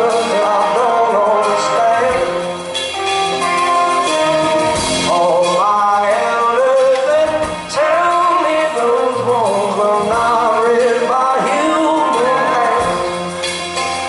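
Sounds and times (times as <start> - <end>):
man singing with vibrato: 0.0 - 14.0
rock band playing: 0.0 - 14.0.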